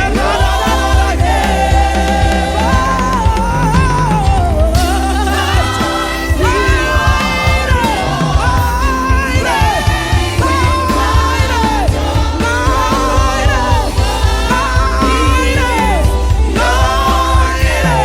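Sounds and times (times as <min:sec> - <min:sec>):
band with strong bass: 0:00.0 - 0:18.0
choir singing: 0:00.0 - 0:18.0.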